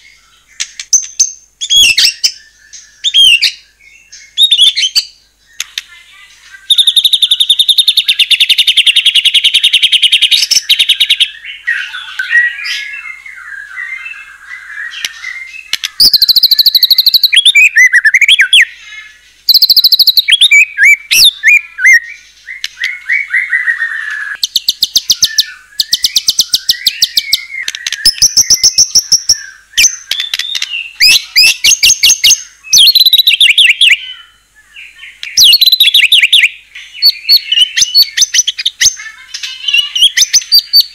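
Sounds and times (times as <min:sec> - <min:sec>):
bird singing loudly: 0:00.0 - 0:40.9.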